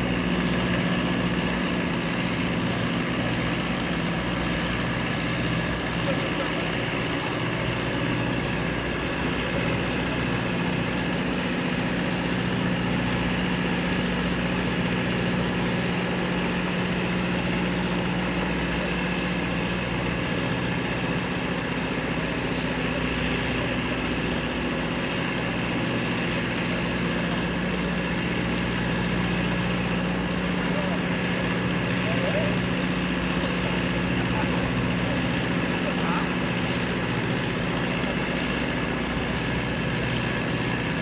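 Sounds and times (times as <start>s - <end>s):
gas turbine engines humming: 0.0s - 41.0s.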